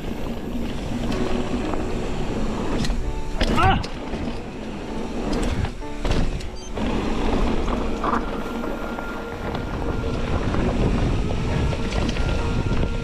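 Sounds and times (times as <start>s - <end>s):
mountain bike rattling on dirt trail: 0.0s - 13.0s
wind rushing over microphone: 0.0s - 13.0s.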